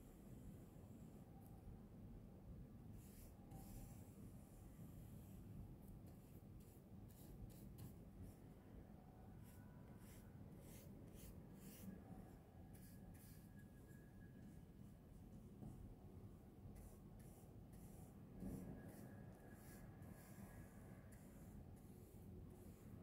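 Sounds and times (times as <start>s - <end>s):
paint brush strokes on paper: 2.9s - 23.0s.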